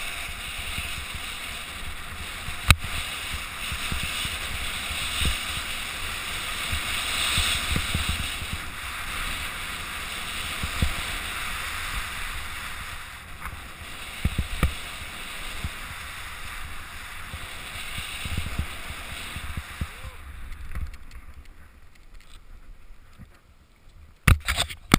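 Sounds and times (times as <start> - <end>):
wind buffeting microphone: 0.0 - 22.0
skis carving on snow: 0.0 - 22.4.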